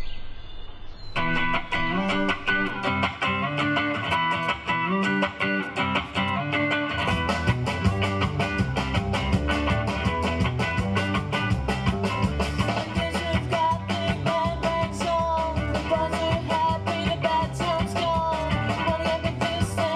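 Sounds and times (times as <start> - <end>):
heavy bass: 1.1 - 19.9
rock guitar instrumental: 1.1 - 19.9.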